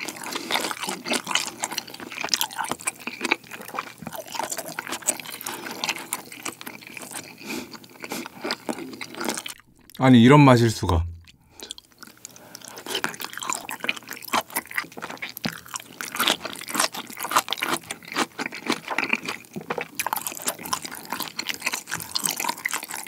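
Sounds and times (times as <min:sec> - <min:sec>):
close chewing with wet crackles: 0:00.0 - 0:10.0, 0:11.2 - 0:23.0.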